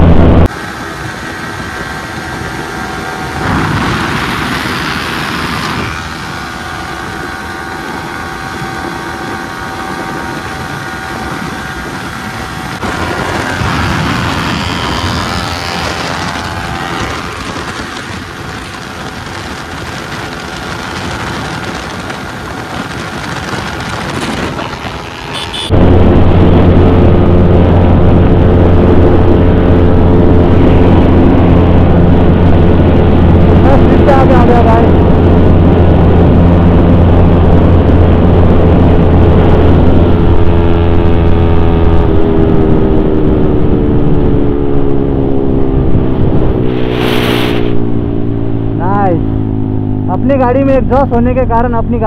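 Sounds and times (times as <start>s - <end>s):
loud low engine hum: 0.0s - 52.0s
motorcycle engines at full speed: 0.0s - 52.0s
wind rushing over microphone: 0.0s - 52.0s.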